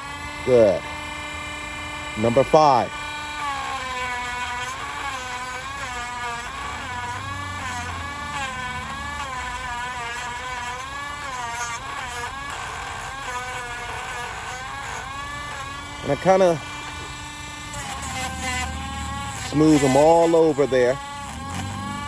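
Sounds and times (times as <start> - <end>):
rotary tool whining: 0.0 - 22.0.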